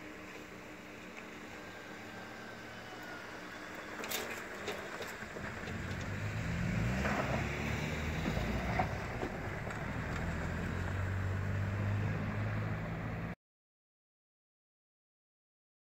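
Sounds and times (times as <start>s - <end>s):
car engines humming: 0.0s - 13.4s
tyre noise on snowy road: 0.0s - 13.4s.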